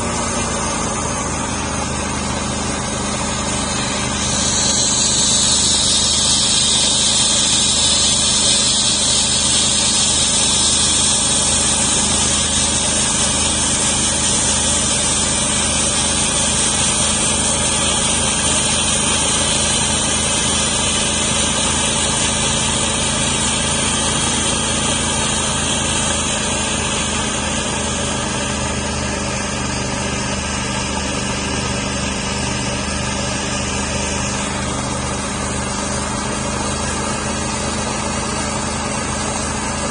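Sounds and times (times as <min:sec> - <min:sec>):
saw blade hissing through log: 0:00.0 - 0:39.9
sawmill engine running: 0:00.0 - 0:39.9.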